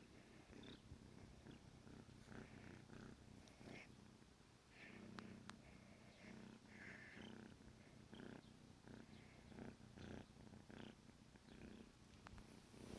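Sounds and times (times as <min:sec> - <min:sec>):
kitten purring: 0:00.0 - 0:12.9.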